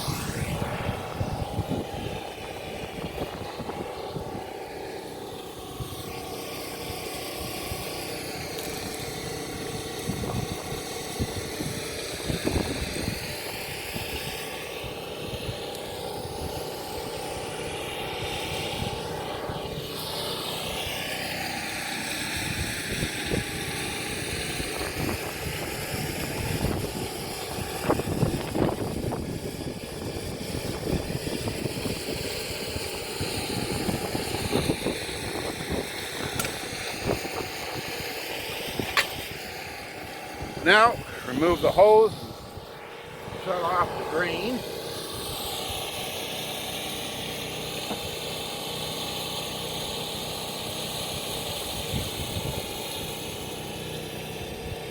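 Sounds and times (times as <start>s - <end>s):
motor droning: 0.0s - 54.9s.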